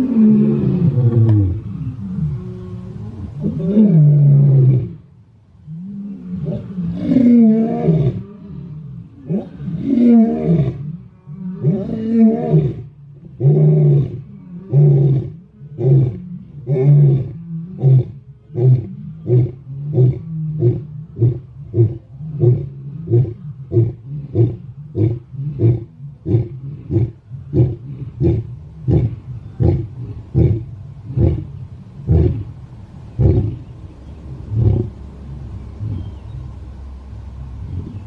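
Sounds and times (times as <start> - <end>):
lion roaring and grunting: 0.0 - 5.0, 5.7 - 32.5.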